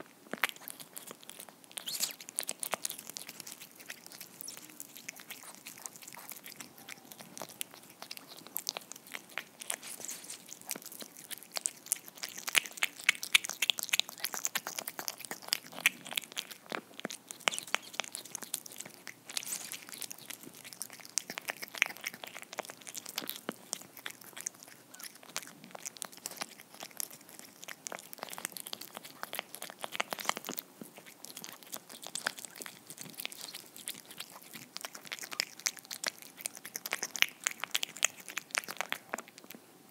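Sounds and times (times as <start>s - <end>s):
cat chewing and lapping: 0.0s - 39.9s.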